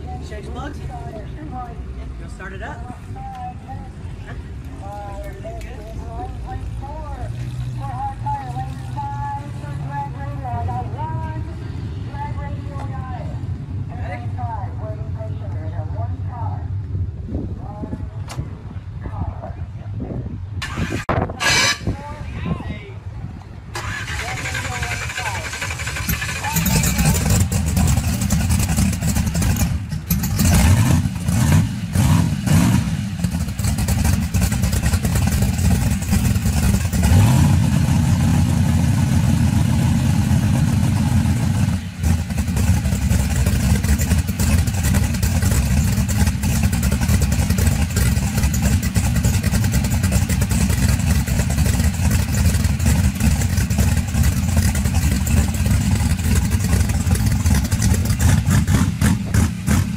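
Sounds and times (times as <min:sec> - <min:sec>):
drag car engine idling and revving: 0:00.0 - 0:59.9.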